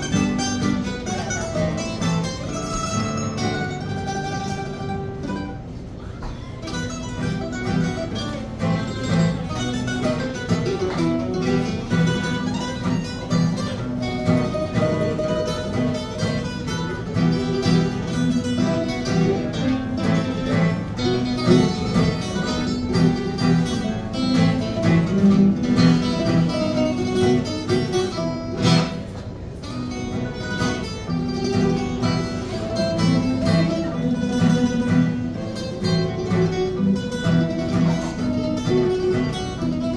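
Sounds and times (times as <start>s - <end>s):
acoustic guitars strumming: 0.0s - 39.9s
picked mandolin melody: 0.0s - 39.9s.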